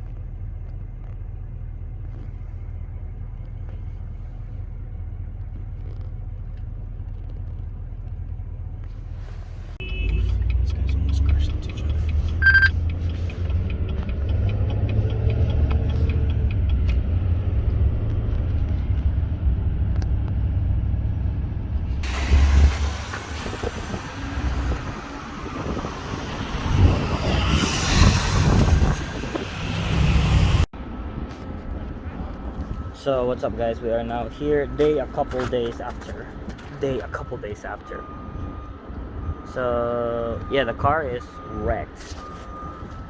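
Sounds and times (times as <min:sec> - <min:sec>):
car rumbling on road: 0:00.0 - 0:43.0.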